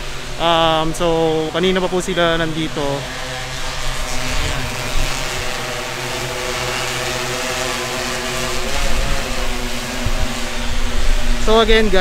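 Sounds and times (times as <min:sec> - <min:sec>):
drone propellers droning: 0:00.0 - 0:12.0.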